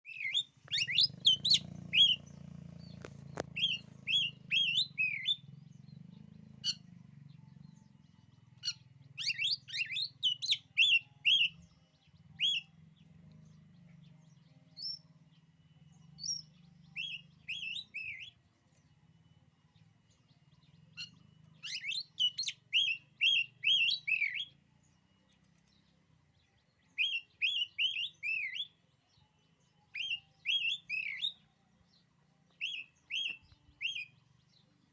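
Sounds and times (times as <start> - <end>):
bird singing whistled chirps: 0.0 - 34.9.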